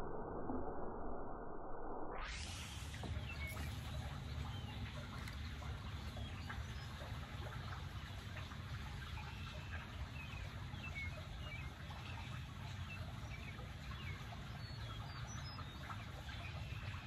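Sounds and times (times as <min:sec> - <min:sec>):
steady low rumble: 0:00.0 - 0:17.0
birds chirping: 0:02.3 - 0:17.0.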